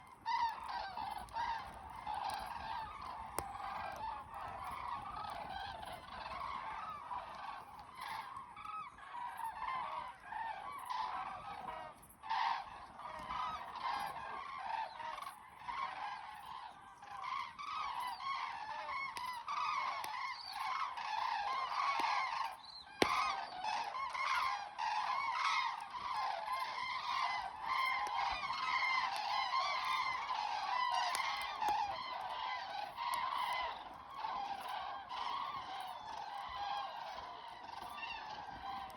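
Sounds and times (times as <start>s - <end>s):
cranes trumpeting calls: 0.0s - 38.9s.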